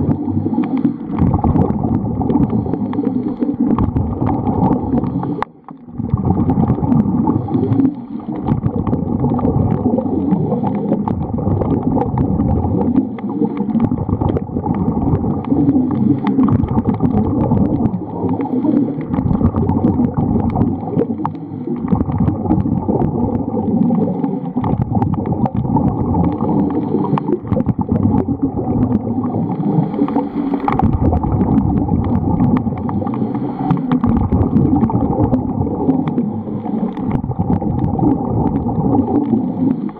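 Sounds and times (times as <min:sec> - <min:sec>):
muffled underwater rumble: 0:00.0 - 0:39.9
water gurgling and bubbles: 0:00.0 - 0:39.9.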